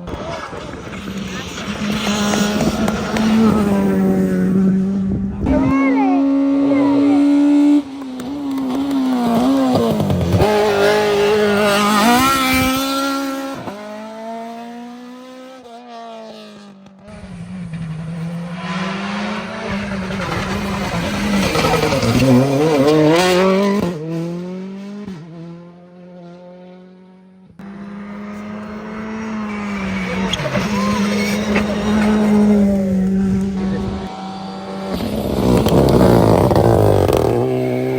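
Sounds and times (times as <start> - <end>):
rally cars passing at full throttle: 0.0 - 37.9.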